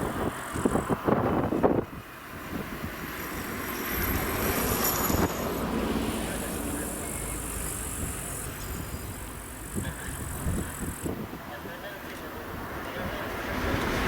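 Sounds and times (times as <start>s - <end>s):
jet engines rushing: 0.0s - 11.8s.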